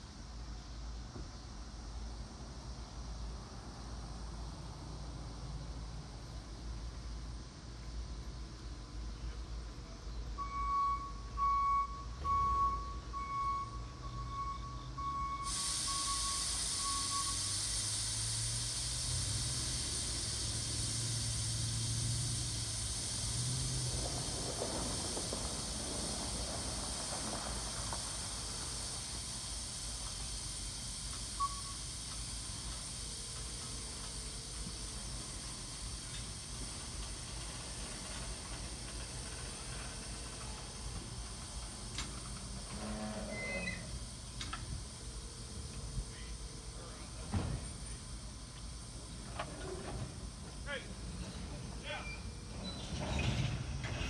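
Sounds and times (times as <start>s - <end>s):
air brakes hissing: 3.3s - 54.0s.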